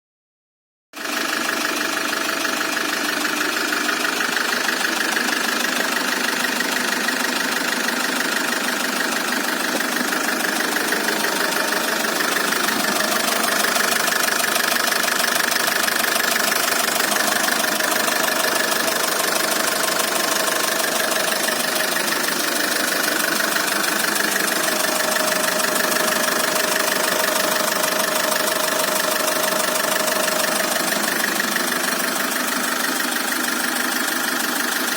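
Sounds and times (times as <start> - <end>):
diesel engine idling: 1.0 - 34.9.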